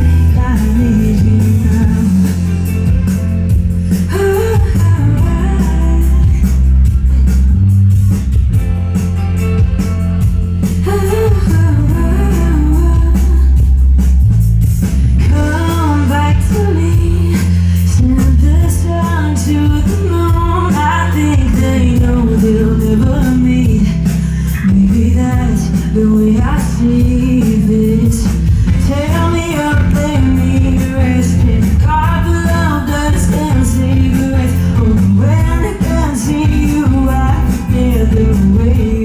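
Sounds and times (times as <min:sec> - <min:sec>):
person singing: 0:00.0 - 0:03.1, 0:03.8 - 0:07.4, 0:10.6 - 0:13.9, 0:15.1 - 0:39.0
guitar: 0:00.0 - 0:39.0
heavy steady bass: 0:00.0 - 0:39.0.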